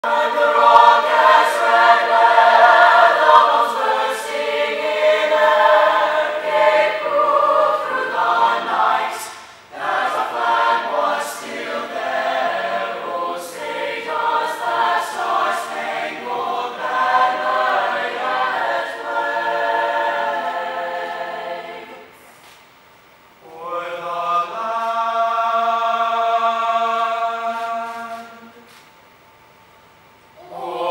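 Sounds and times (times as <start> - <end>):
choir singing: 0.0 - 22.2, 23.4 - 28.8, 30.4 - 30.9.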